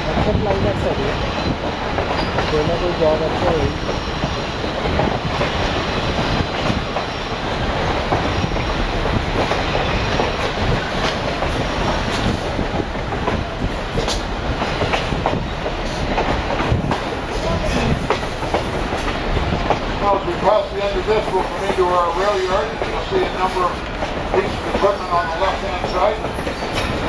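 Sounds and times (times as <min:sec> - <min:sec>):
train running noise: 0:00.0 - 0:27.0.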